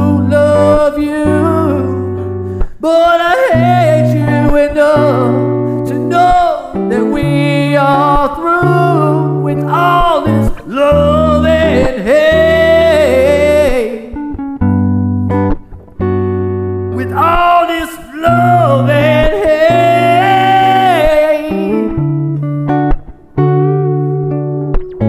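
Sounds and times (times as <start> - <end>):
person singing: 0.0 - 14.4, 16.8 - 25.0
guitar chords: 0.0 - 25.0.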